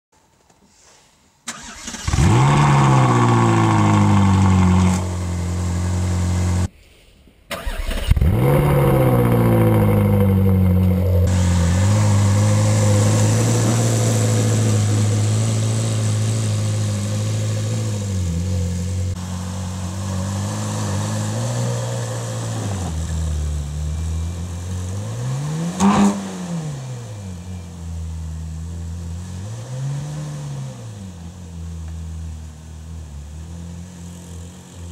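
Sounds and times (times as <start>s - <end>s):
car engine starting and idling: 1.4s - 6.7s, 7.5s - 34.9s.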